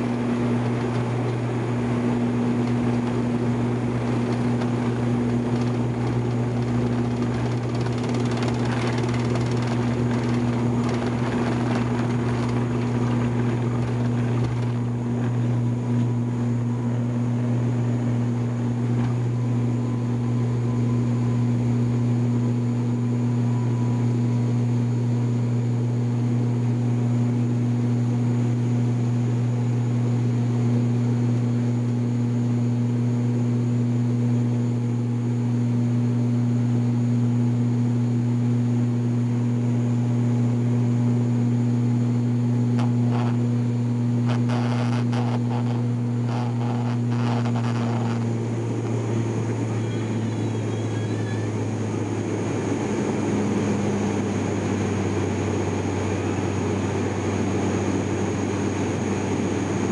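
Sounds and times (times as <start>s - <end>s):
turboprop engine cabin drone: 0.0s - 59.9s.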